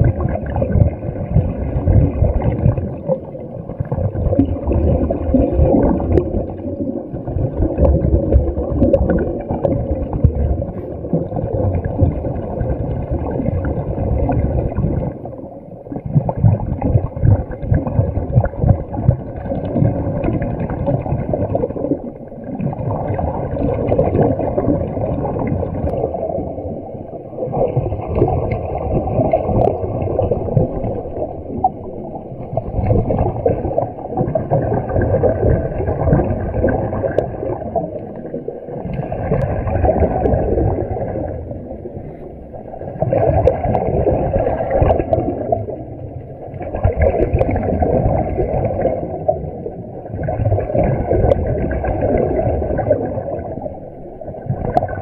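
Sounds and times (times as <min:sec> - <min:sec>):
underwater air bubbling: 0:00.0 - 0:55.0.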